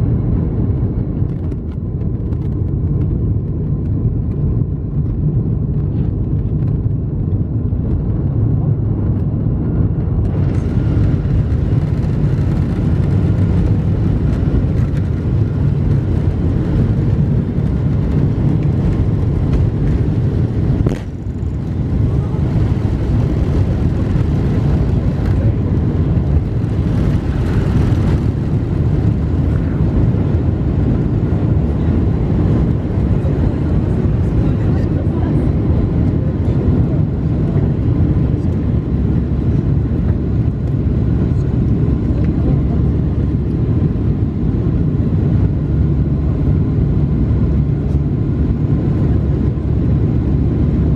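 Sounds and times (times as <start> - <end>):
airliner engine rumble in cabin: 0.0 - 50.9.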